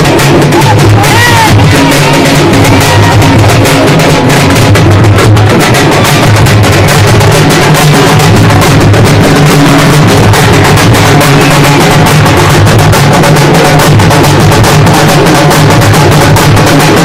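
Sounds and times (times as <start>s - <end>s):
frame drums rapid beat: 0.0s - 17.0s.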